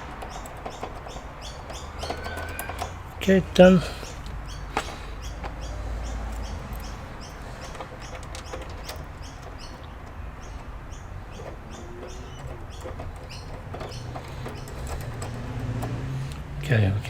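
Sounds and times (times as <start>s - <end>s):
small bird chirping: 0.0s - 16.8s.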